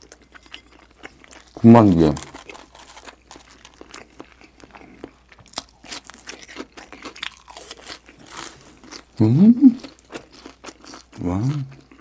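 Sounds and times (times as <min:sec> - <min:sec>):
crunching and chewing fried food: 0:00.0 - 0:12.0.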